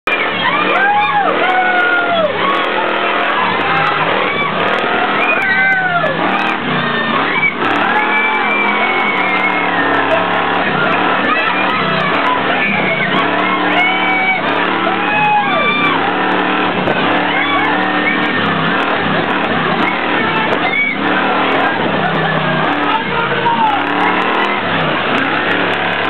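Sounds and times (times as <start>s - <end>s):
voices shouting: 0.0s - 26.0s.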